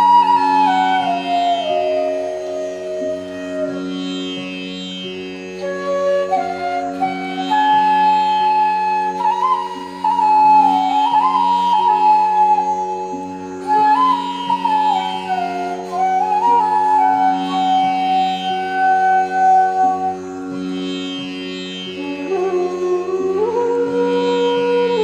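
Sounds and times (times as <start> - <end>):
flute melody: 0.0 - 25.0.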